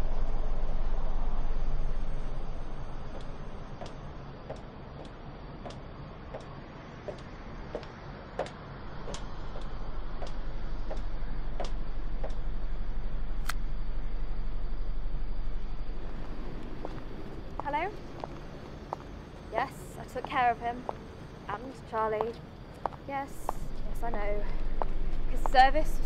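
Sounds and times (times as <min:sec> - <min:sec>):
low background noise: 0:00.0 - 0:26.0.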